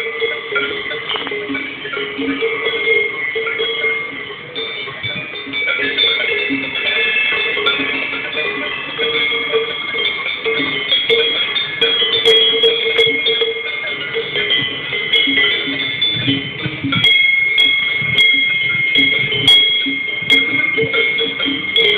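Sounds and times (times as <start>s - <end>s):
cowbells clanking: 0.0s - 21.9s.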